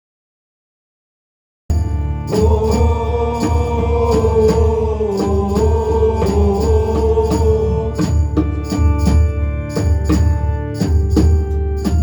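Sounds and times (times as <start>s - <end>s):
band playing droning piece: 1.7s - 12.0s
drum and cymbal hits: 1.7s - 12.0s
pulsing bass: 1.7s - 12.0s.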